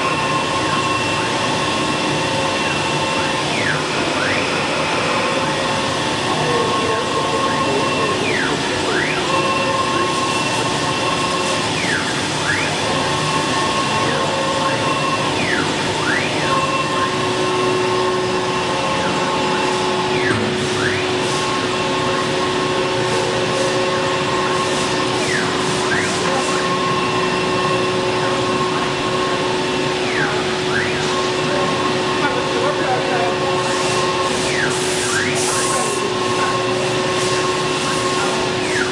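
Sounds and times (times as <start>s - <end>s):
hissing machining noise: 0.0s - 38.9s
wood router spindle whining: 0.0s - 38.9s.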